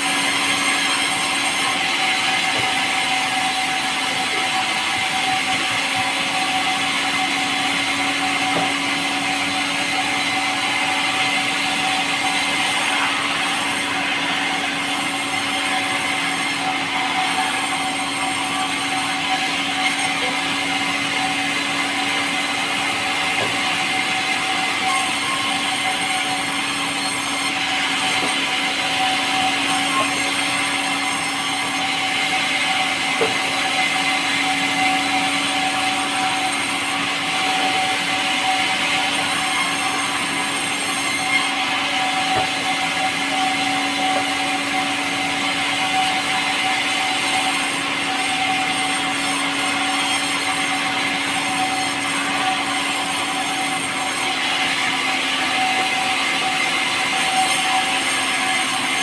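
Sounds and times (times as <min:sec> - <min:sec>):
power saw cutting wood: 0:00.0 - 0:59.0.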